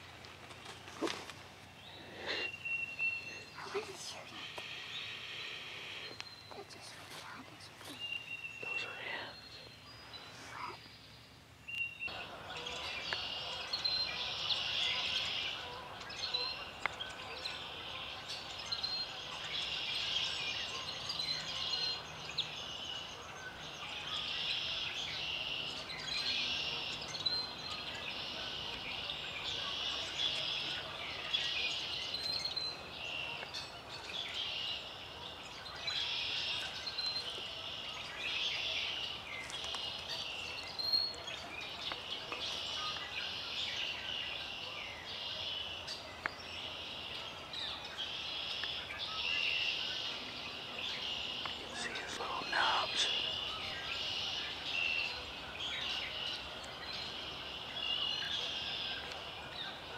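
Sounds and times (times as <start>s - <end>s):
outdoor background hiss: 0.0s - 13.5s, 14.1s - 59.9s
songbirds singing: 0.0s - 59.9s.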